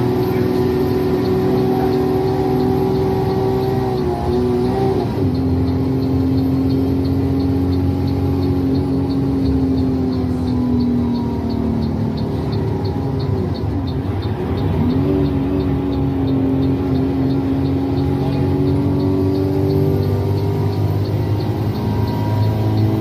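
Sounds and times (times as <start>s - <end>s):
bus engine running: 0.0s - 23.0s
turn-signal relay ticking: 0.0s - 23.0s.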